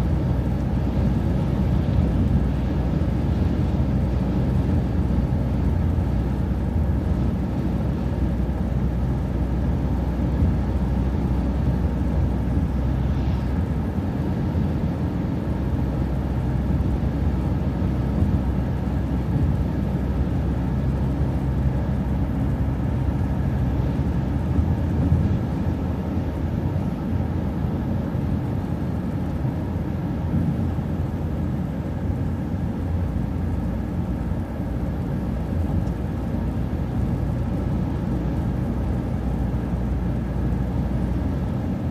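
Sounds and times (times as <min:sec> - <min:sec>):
bus engine drone: 0:00.0 - 0:41.9
faint steady whine: 0:00.0 - 0:41.9
road noise: 0:00.0 - 0:41.9.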